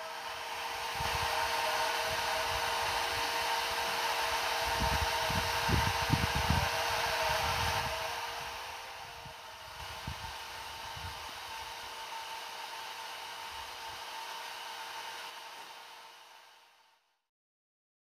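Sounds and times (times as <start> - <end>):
mechanical whirring hiss: 0.0 - 16.8.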